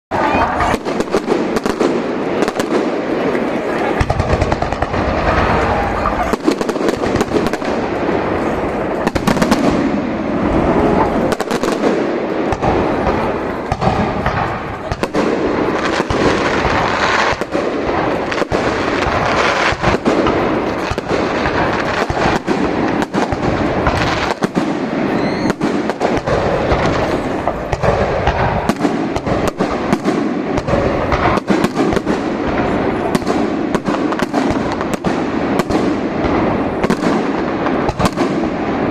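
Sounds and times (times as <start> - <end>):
fireworks booming and crackling: 0.1 - 38.9.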